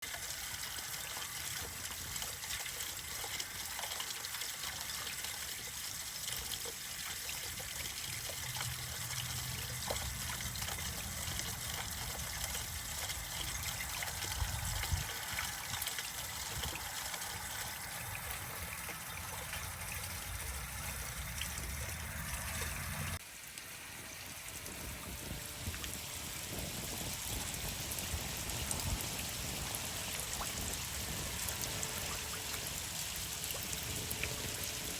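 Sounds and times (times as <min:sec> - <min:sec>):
water trickling down rain chain: 0:00.0 - 0:34.9.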